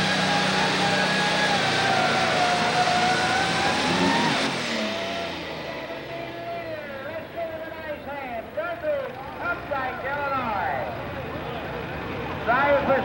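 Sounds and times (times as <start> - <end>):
high turbo whine: 0.0 - 11.3
diesel tractor engine roaring: 0.0 - 13.0.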